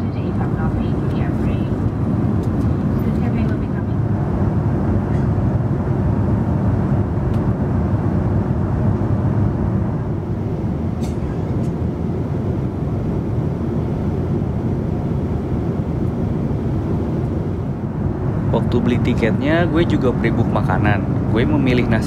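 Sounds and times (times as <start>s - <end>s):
airliner cabin low rumble: 0.0s - 22.0s.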